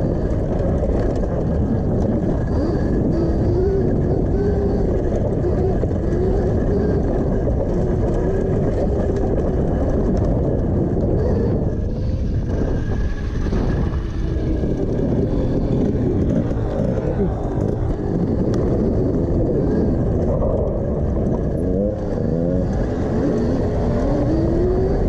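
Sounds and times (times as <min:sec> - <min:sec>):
electric motorbike motor whining: 0:00.0 - 0:25.0
wind on microphone: 0:00.0 - 0:25.0.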